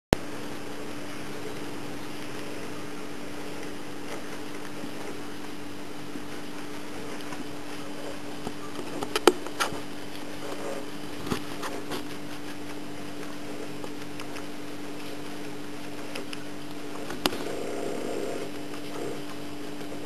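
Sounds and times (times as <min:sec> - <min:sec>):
guinea pig chewing leaves: 0:00.1 - 0:20.0
low hum and hiss: 0:00.1 - 0:20.0.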